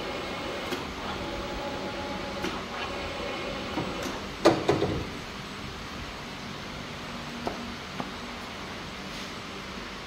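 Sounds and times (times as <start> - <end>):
machine mechanical hum: 0.0 - 10.0.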